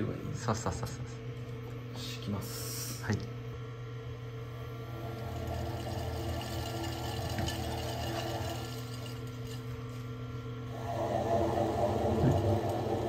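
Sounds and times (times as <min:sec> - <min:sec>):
potter's wheel humming: 0:00.0 - 0:13.0.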